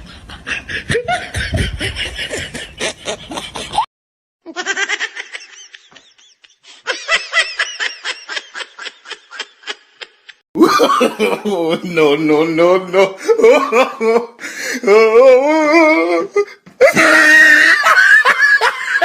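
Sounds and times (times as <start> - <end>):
person laughing: 0.0 - 3.9, 4.5 - 11.9, 12.9 - 19.0.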